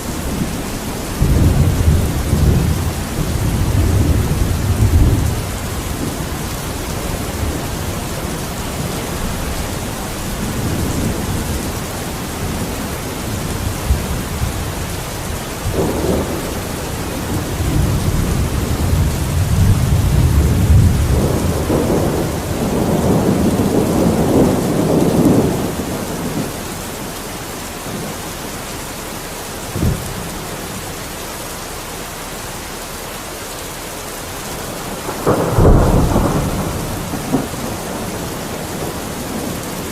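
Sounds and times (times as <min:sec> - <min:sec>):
rolling thunder: 0:00.0 - 0:27.2, 0:29.7 - 0:30.8, 0:34.6 - 0:39.9
steady rain: 0:00.0 - 0:39.9.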